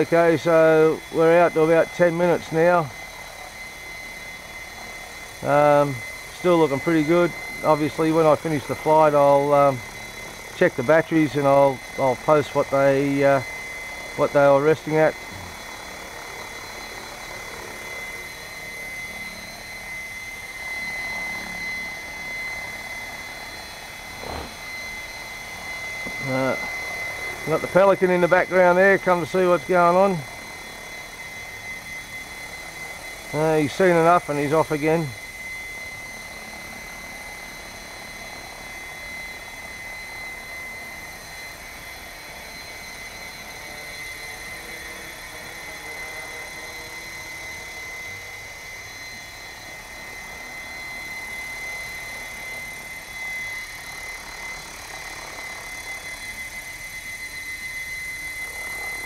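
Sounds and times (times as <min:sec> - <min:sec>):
high-pitched whine: 0:00.0 - 0:59.0
rc helicopter rotor whir: 0:00.0 - 0:59.0.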